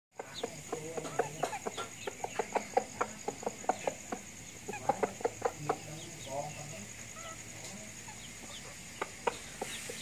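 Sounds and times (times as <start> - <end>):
chicken clucking: 0.1 - 10.0.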